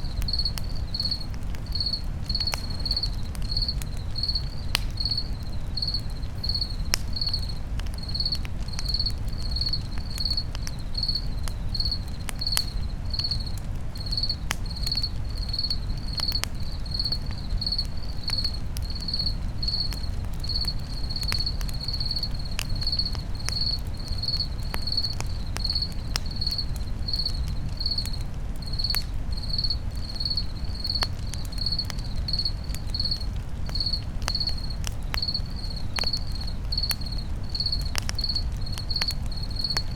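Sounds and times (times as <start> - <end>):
crackling campfire: 0.0 - 39.9
cricket chirping: 0.0 - 39.9.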